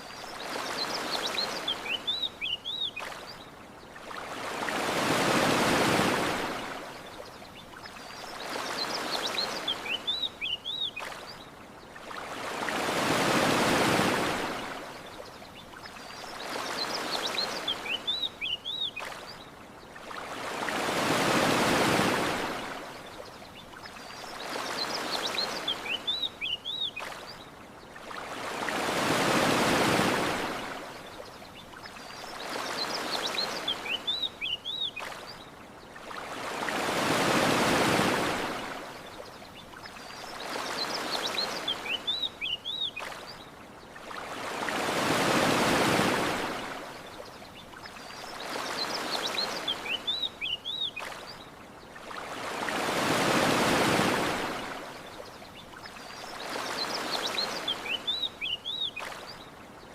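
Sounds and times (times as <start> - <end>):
ocean waves washing onto shore: 0.0 - 59.9.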